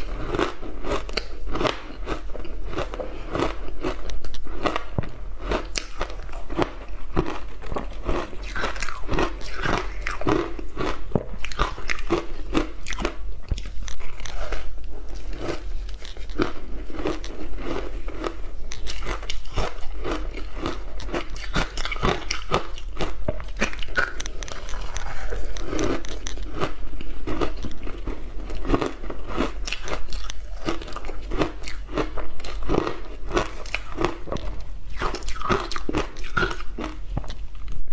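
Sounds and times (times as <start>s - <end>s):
frozen ice crunching in mouth: 0.0s - 37.1s.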